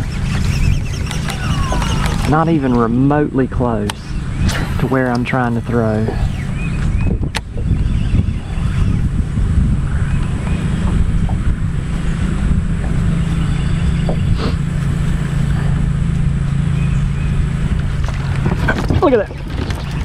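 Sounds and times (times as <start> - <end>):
motor humming: 0.0 - 20.0
wind rumbling on microphone: 0.0 - 20.0.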